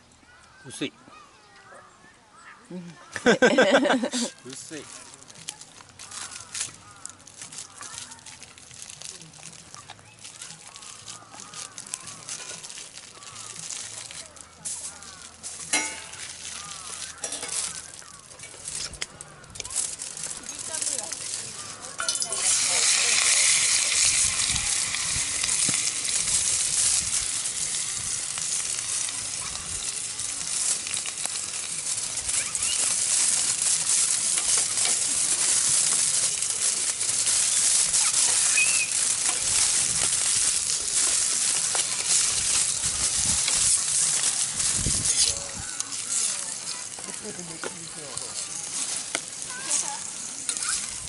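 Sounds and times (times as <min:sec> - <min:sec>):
food sizzling in a pan: 0:03.2 - 0:51.0.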